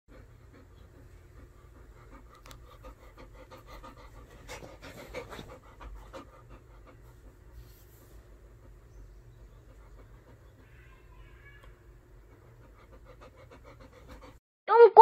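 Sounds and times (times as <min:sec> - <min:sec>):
dog panting rapidly: 0:00.1 - 0:11.1, 0:11.9 - 0:14.4.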